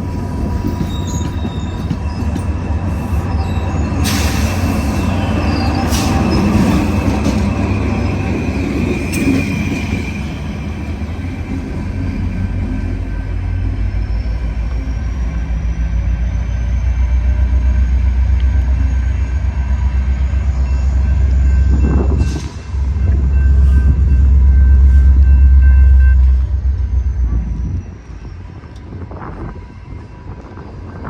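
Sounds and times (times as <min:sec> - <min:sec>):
diesel locomotive rumbling: 0:00.0 - 0:31.0.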